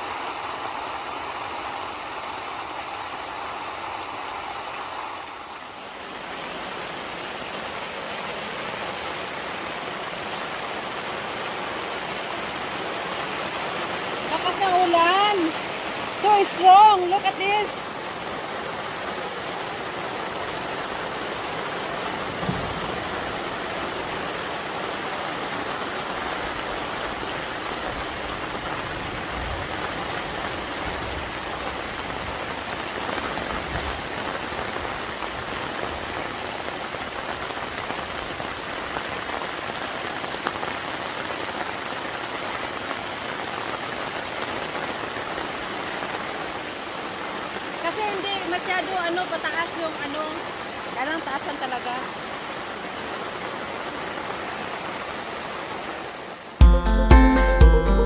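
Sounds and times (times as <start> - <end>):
heavy rain pattering: 0.0 - 56.9.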